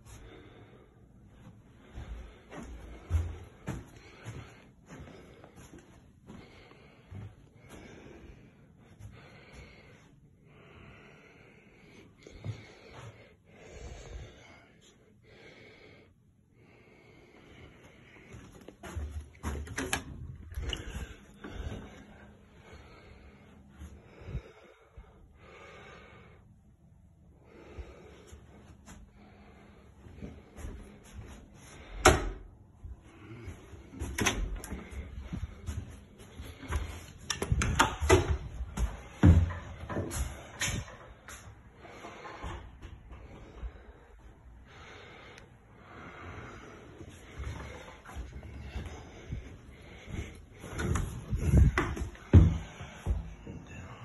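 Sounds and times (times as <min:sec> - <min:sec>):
person breathing: 0:00.0 - 0:54.0.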